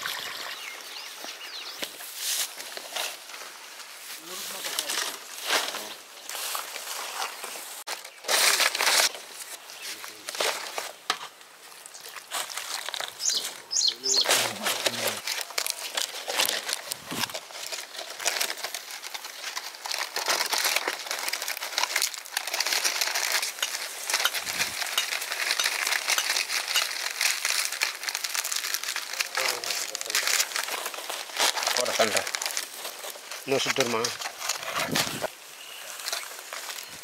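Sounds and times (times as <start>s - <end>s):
dry palm leaves crackling: 0.4s - 37.0s.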